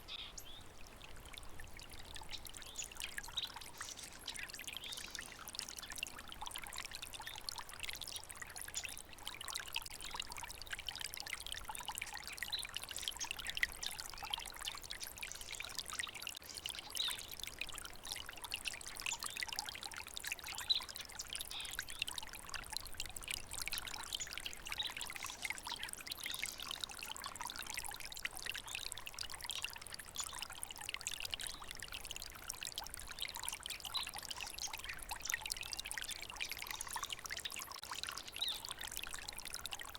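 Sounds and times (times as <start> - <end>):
water stream flowing: 0.0 - 39.9.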